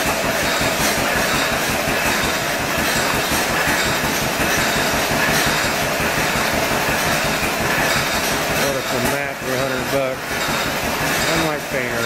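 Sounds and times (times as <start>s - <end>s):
saw drive clattering: 0.0s - 12.0s
tractor engine running: 0.0s - 12.0s.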